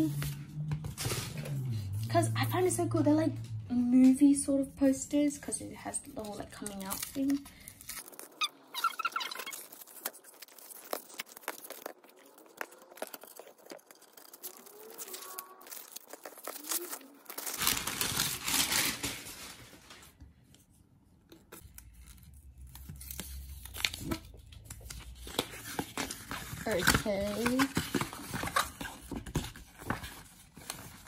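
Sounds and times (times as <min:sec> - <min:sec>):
paper rustling and crinkling: 0:05.6 - 0:31.0.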